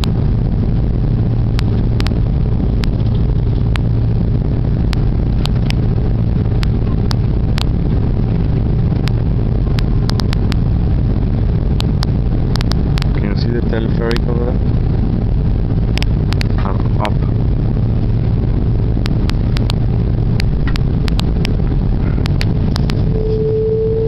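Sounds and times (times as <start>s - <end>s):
airliner cabin rumble: 0.0s - 24.0s
sharp clicks and rattles: 1.4s - 10.7s, 11.7s - 23.5s.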